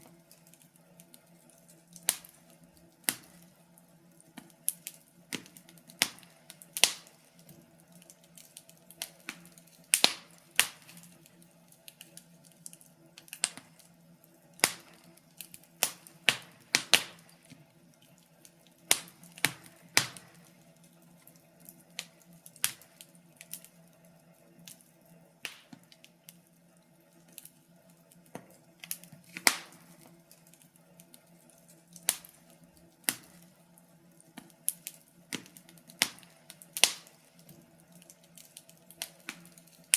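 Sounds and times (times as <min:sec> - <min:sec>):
wood fire popping and snapping: 0:00.0 - 0:39.9.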